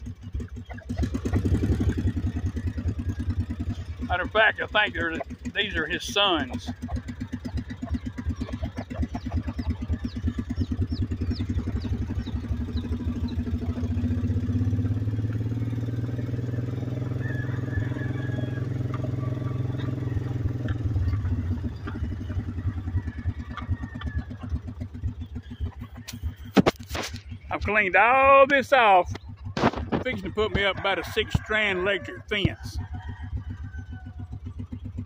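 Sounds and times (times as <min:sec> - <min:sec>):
small engine pulsing: 0:00.0 - 0:35.0.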